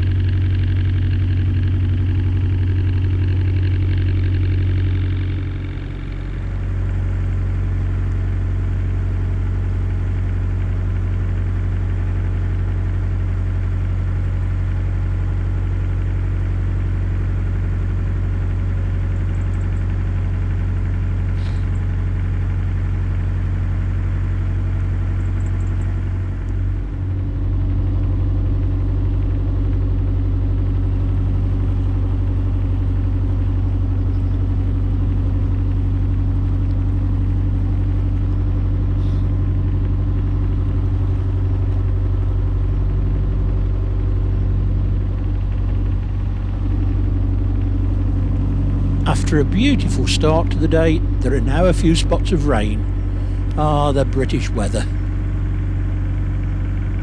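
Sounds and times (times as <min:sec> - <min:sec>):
boat diesel engine running: 0:00.0 - 0:57.0.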